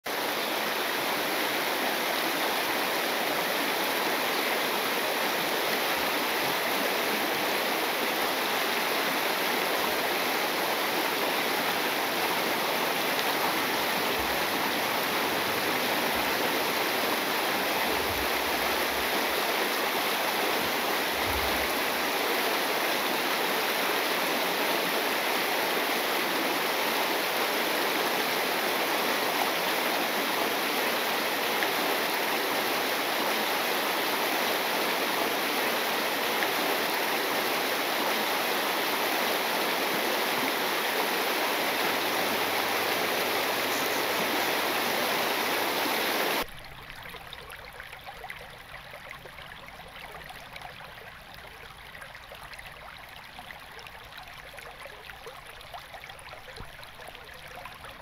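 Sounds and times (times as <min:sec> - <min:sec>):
waterfall and rapids rushing: 0:00.1 - 0:46.8.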